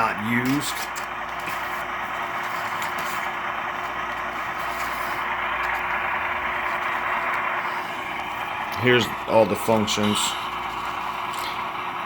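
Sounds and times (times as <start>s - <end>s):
diesel engine sound from small speaker: 0.0s - 12.0s.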